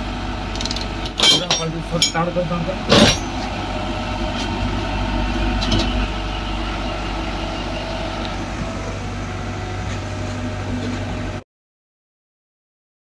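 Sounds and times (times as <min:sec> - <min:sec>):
machinery drone with low hum: 0:00.0 - 0:11.4.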